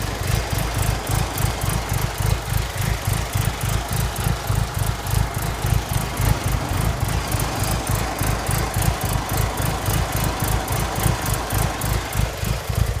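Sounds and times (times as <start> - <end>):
car engine idling lumpily: 0.0 - 13.0.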